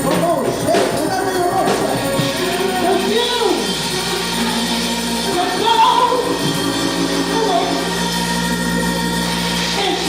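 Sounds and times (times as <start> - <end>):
organ chords: 0.0 - 10.0
person singing: 0.0 - 10.0.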